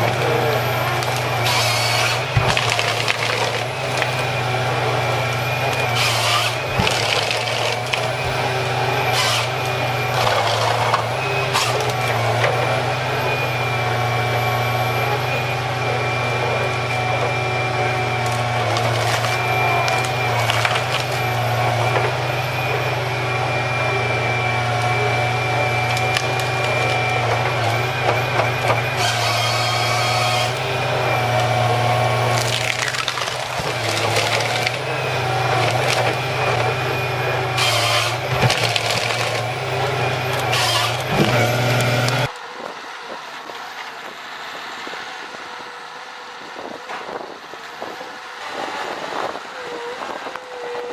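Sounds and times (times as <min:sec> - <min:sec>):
wood cracking and splintering: 0:00.0 - 0:42.4
heavy machine engine under load: 0:00.0 - 0:50.9
wind: 0:00.0 - 0:50.9.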